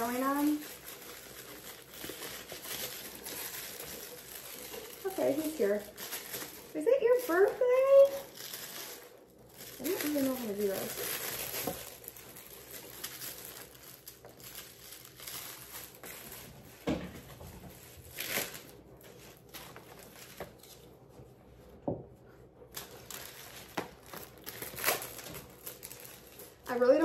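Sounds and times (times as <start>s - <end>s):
paper crinkling and rustling: 0.0s - 21.7s, 22.4s - 27.0s.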